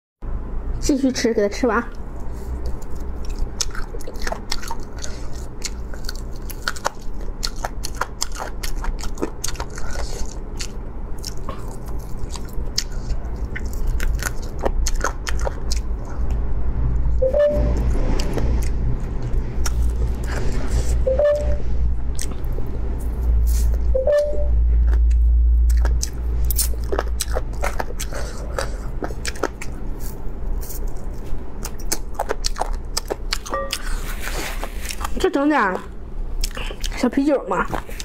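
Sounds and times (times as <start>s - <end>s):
steady low hum: 0.2s - 38.0s
person chewing crunchy bones: 1.9s - 16.6s, 17.8s - 21.1s, 22.1s - 23.9s, 24.7s - 35.2s, 36.3s - 37.0s.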